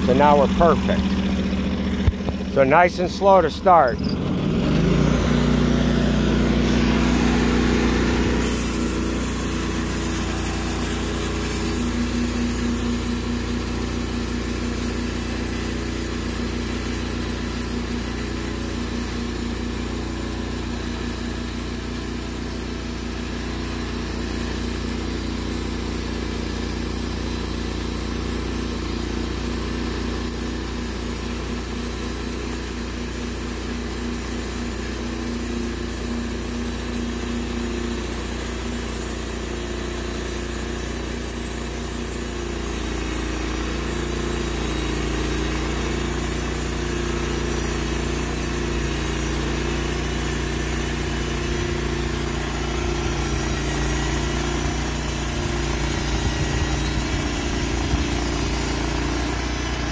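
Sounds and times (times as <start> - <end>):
band sawmill cutting log: 0.0 - 59.9.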